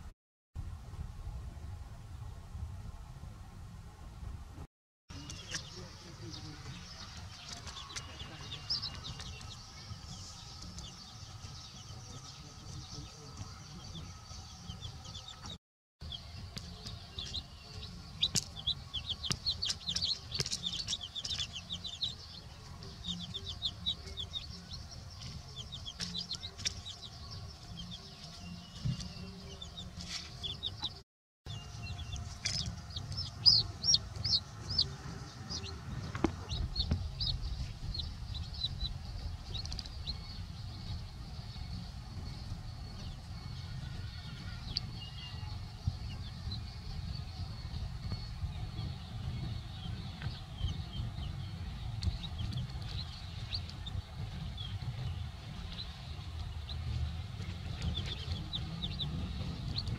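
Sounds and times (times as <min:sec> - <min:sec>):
low steady rumble: 0:00.0 - 0:59.9
chicks peeping: 0:05.1 - 0:59.9.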